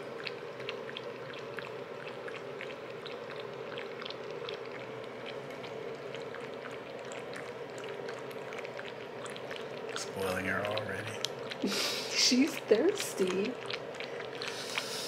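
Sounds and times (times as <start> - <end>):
puppy lapping water from metal bowl: 0.0 - 15.0.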